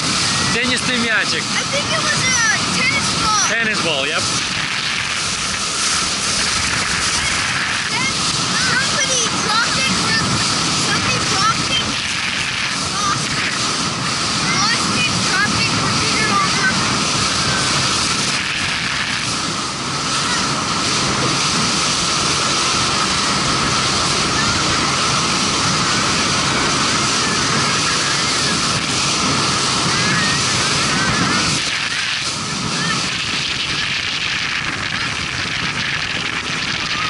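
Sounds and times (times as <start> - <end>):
high whine: 0.0 - 37.0
hull on water: 0.0 - 37.0
motorboat engine: 0.0 - 37.0
wind on microphone: 0.0 - 37.0.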